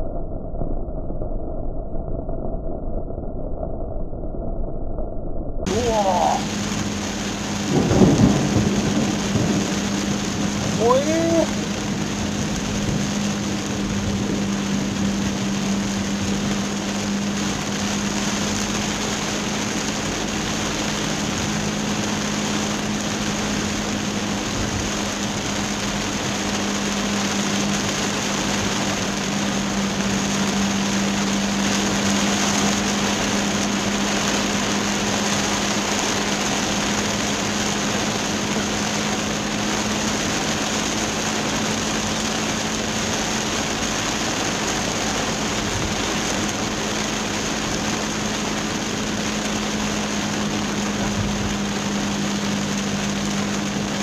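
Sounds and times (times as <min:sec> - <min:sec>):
low hum: 0:00.0 - 0:49.2
car engine: 0:05.6 - 0:54.0
heavy rain on car: 0:05.7 - 0:54.0
wet road tyre noise: 0:05.7 - 0:54.0.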